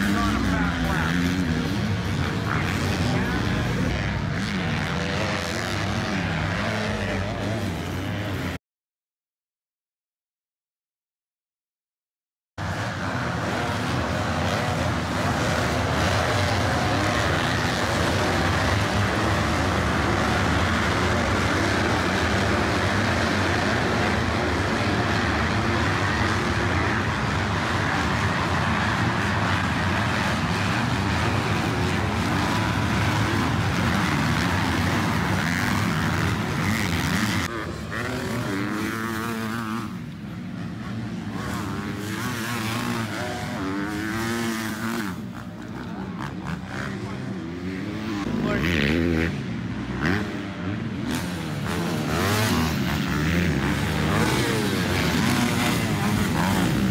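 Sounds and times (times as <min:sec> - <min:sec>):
motocross bikes revving: 0:00.0 - 0:08.6, 0:12.6 - 0:56.9.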